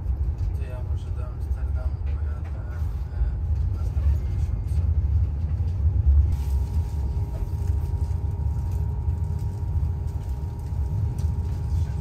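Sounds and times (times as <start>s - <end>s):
train running gear rumble: 0.0s - 12.0s.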